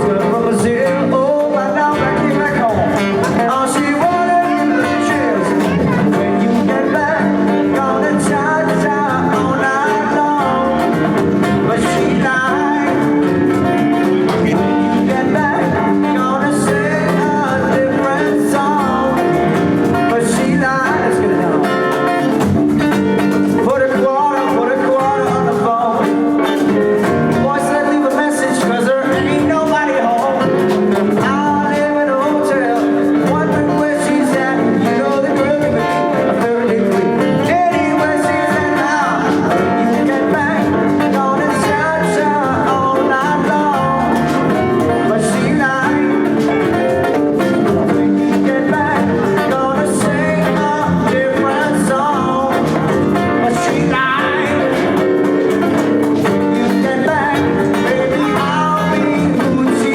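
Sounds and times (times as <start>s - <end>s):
live band playing: 0.0s - 59.9s
person singing: 0.0s - 59.9s.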